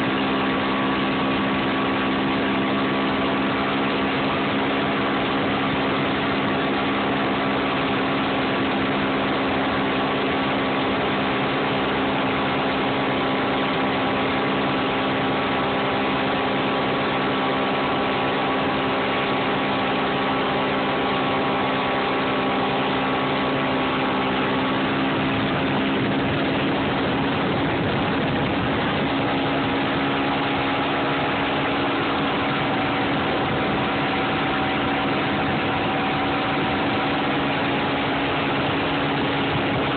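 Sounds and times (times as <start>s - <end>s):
outboard motor running: 0.0s - 39.9s
rush of spray: 0.0s - 39.9s.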